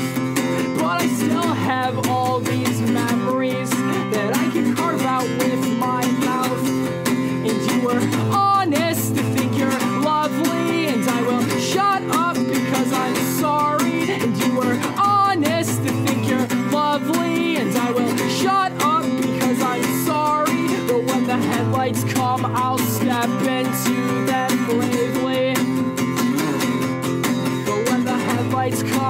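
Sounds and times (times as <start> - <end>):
band music with strummed guitars: 0.0 - 29.0.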